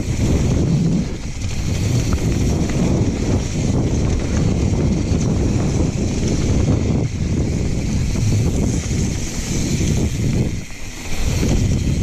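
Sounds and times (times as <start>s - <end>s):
bike rattles: 0.0s - 12.0s
tyres on dirt and gravel: 0.0s - 12.0s
wind on microphone: 0.0s - 12.0s.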